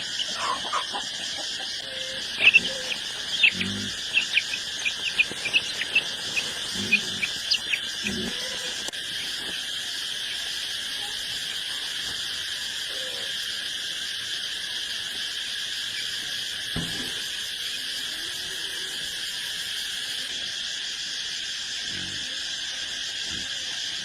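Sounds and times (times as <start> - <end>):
insects calling: 0.0 - 24.0.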